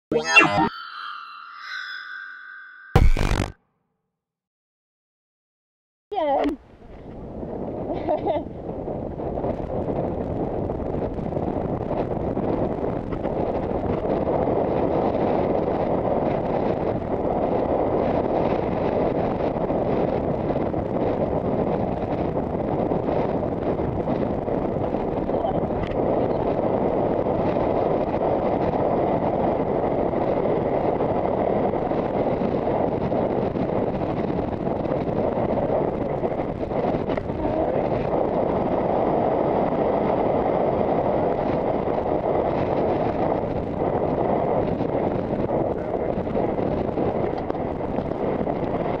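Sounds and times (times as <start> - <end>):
wind buffeting microphone: 6.1 - 49.0.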